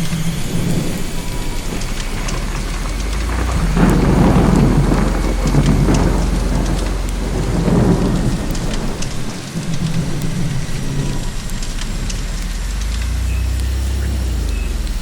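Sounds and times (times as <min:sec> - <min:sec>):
low rolling thunder: 0:00.0 - 0:15.0
rain pattering: 0:00.0 - 0:15.0.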